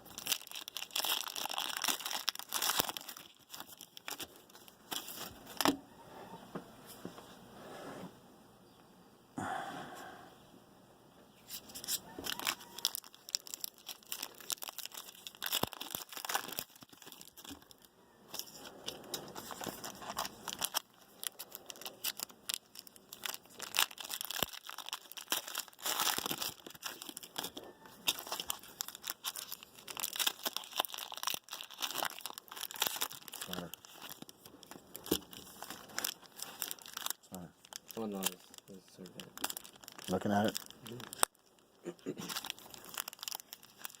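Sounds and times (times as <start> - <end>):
foil wrappers tearing and crinkling: 0.0 - 5.8, 11.5 - 44.0.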